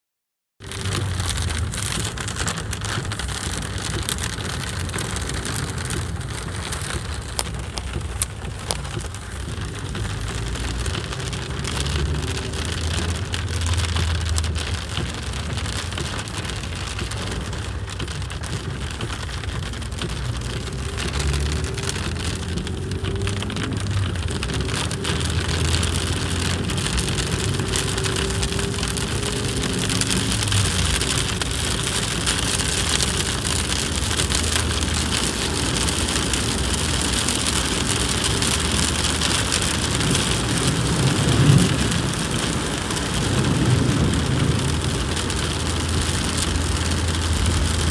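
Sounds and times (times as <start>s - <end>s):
car rumbling on wet road: 0.6s - 47.9s
heavy rain drumming on car roof: 0.6s - 47.9s.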